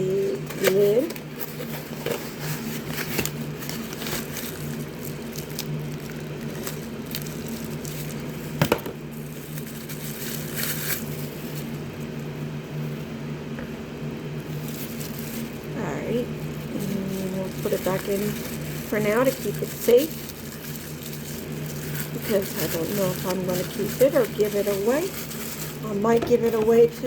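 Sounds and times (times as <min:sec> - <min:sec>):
steady low hum: 0:00.0 - 0:27.0
packaging rustling: 0:00.2 - 0:12.1, 0:14.4 - 0:27.0.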